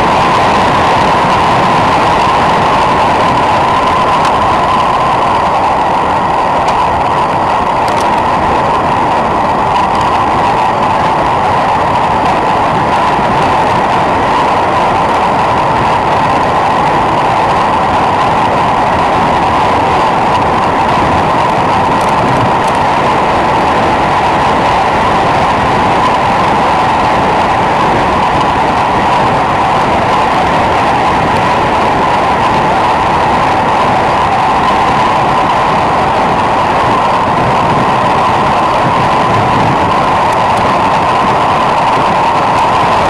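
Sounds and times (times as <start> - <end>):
wind roar on microphone: 0.0 - 43.0.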